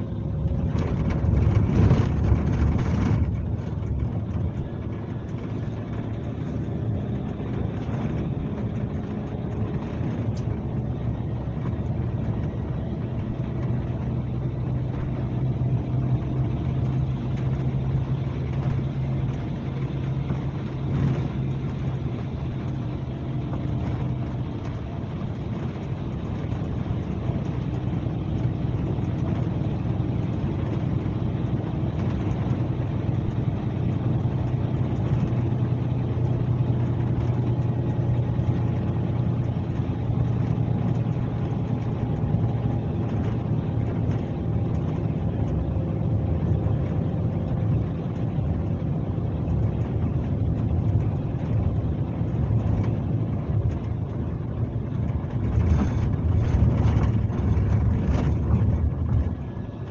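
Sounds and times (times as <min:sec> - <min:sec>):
diesel engine droning: 0:00.0 - 0:59.9
road noise: 0:00.0 - 0:59.9.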